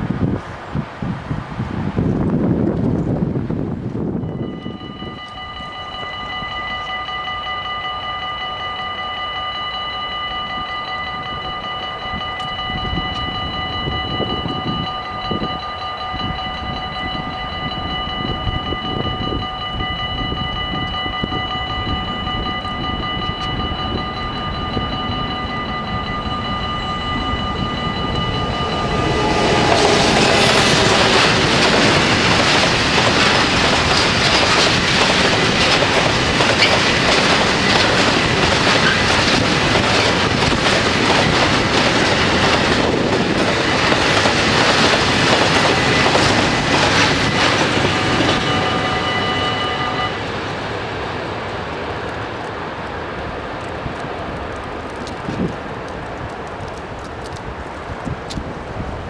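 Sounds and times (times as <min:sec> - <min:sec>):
freight train passing: 0:00.0 - 0:59.0
level-crossing warning bells: 0:04.1 - 0:53.4.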